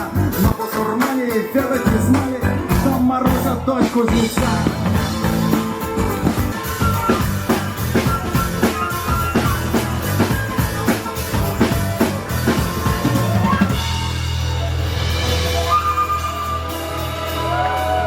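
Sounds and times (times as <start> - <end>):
drum kit beat: 0.0 - 18.0
rock band playing: 0.0 - 18.0.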